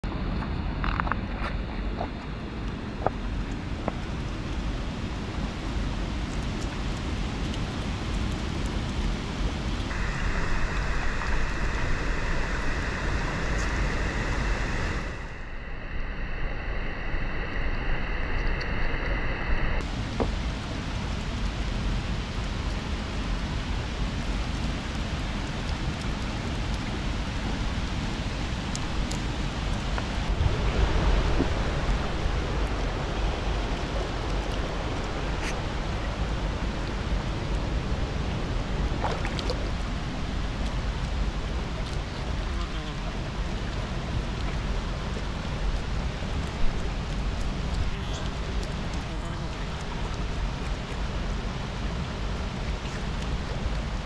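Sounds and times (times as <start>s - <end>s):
falling rain: 0.0s - 18.9s, 19.8s - 54.0s
river running over rocks: 0.2s - 15.5s, 19.8s - 54.0s.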